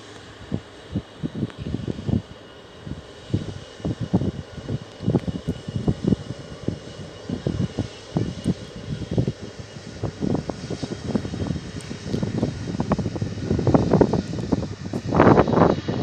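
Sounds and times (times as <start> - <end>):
aircraft engines running: 0.0 - 16.0
wind buffeting microphone: 0.0 - 16.0.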